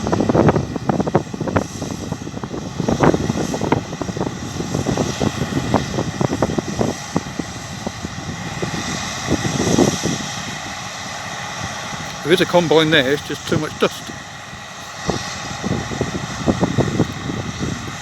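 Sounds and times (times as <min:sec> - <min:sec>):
wind buffeting microphone: 0:00.0 - 0:12.3, 0:14.0 - 0:18.0
distant combine harvester running: 0:00.7 - 0:18.0.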